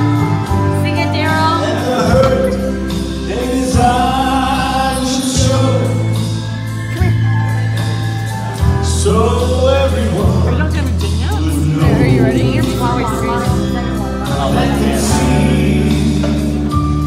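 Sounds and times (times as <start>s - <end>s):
backing music: 0.0s - 17.0s
sustained bass notes: 0.0s - 17.0s
man singing into a microphone: 1.5s - 7.2s, 8.6s - 17.0s.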